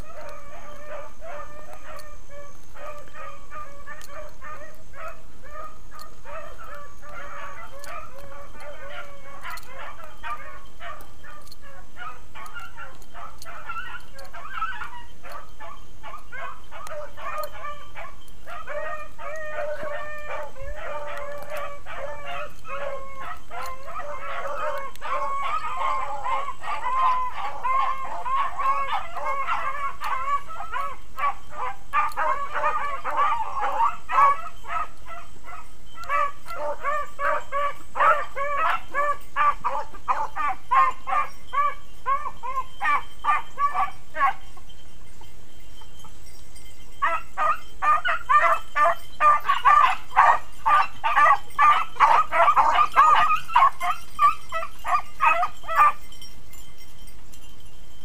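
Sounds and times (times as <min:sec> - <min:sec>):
beagles baying: 0:00.0 - 0:57.4.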